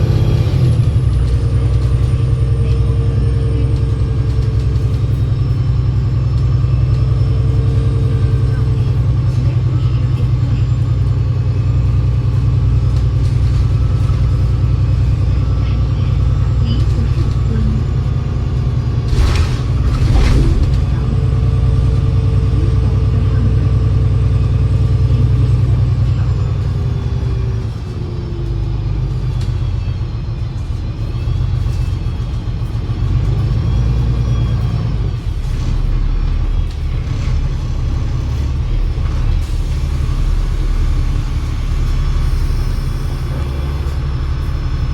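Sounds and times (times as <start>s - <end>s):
bus engine droning: 0.0s - 44.9s.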